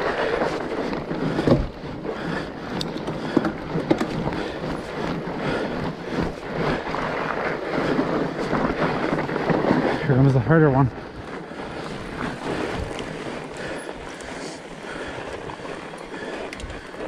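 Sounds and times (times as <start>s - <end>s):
bike knocking and rattling: 0.0s - 17.0s
bike tyres rolling on trail: 0.0s - 17.0s.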